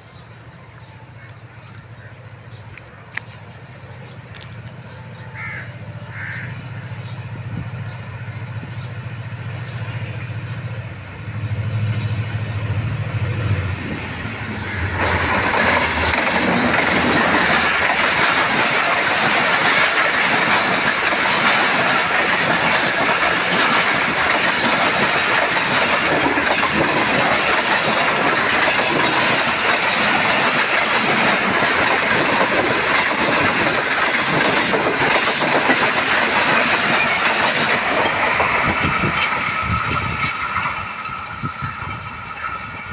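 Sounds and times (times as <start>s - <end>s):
diesel locomotive engine drone: 0.0s - 42.9s
train wheels on rails: 0.0s - 42.9s.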